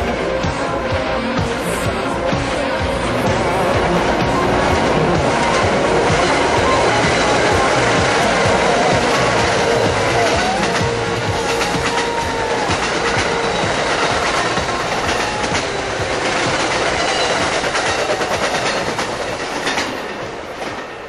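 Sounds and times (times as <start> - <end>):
passenger train passing: 0.0 - 21.0
wheels clacking over rail joints: 0.2 - 21.0.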